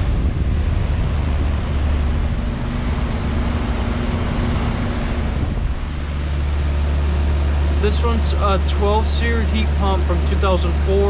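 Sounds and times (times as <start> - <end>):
heat pump fan and compressor: 0.0 - 11.0.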